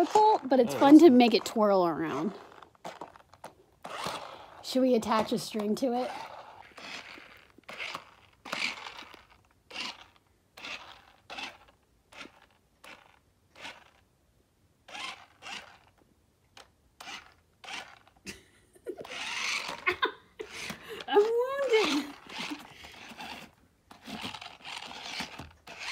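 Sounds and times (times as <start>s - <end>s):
toy car electric motors whirring: 0.0s - 14.1s, 14.8s - 25.9s.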